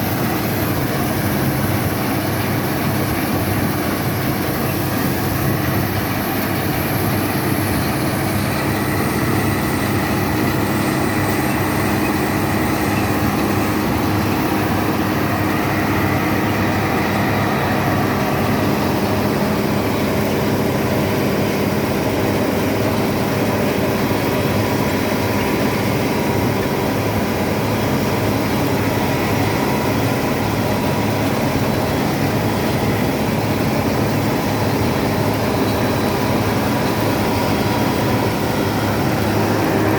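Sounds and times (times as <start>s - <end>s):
combine harvester diesel engine running: 0.0s - 39.9s.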